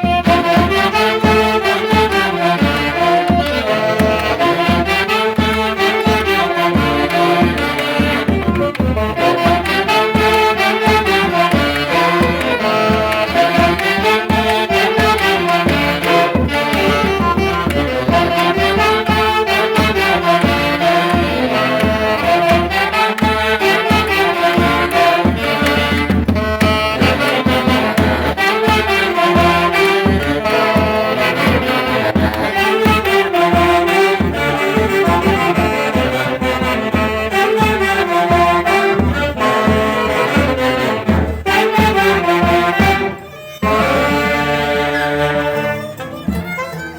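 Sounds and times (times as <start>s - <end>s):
folk orchestra playing melody: 0.0s - 46.9s.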